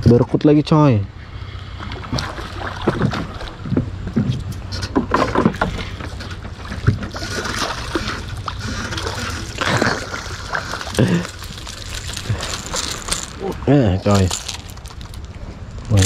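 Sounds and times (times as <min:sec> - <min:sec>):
boat motor humming: 0:01.1 - 0:15.9.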